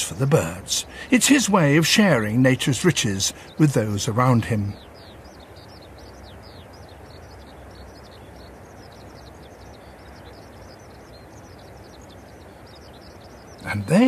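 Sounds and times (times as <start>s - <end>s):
birds chirping: 0.0s - 14.0s
steady background hiss: 0.0s - 14.0s.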